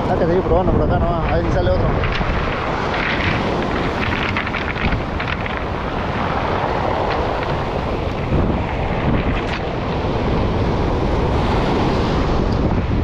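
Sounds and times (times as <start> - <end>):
waves breaking on pebble beach: 0.0 - 13.0
wind buffeting microphone: 0.0 - 13.0.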